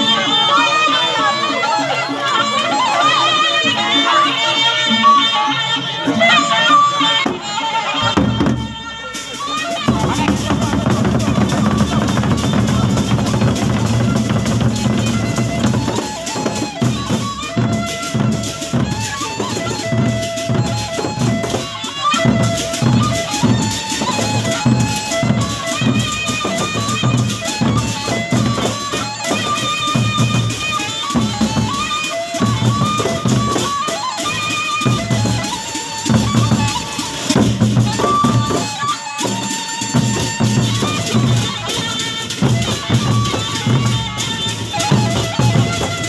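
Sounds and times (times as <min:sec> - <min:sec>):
held melody line: 0:00.0 - 0:46.0
large drums playing fast beat: 0:07.2 - 0:46.0.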